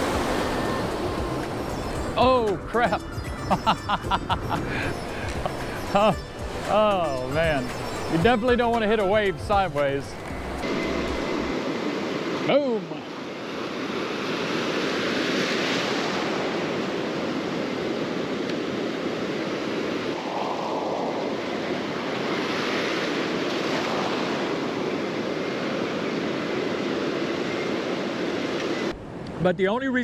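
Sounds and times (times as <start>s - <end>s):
ocean surf breaking: 0.0s - 3.0s, 3.6s - 28.9s.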